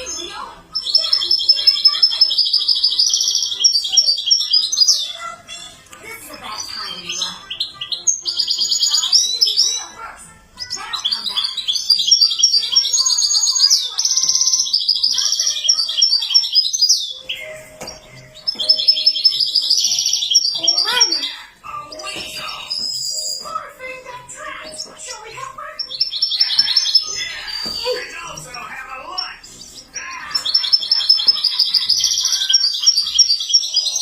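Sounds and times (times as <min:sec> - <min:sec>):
goldfinch twittering song: 0:00.0 - 0:05.5, 0:06.1 - 0:34.0.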